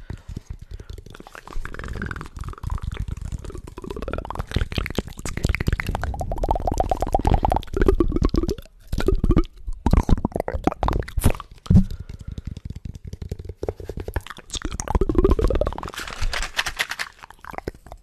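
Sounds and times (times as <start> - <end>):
wet mouth clicks and pops: 0.0 - 18.0.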